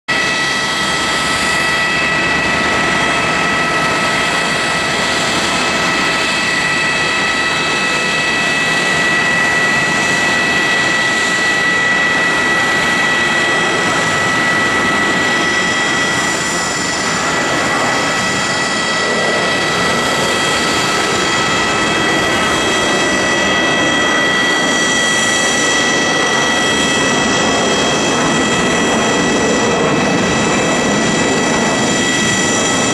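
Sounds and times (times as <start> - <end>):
jet engines with high whine: 0.1 - 32.9.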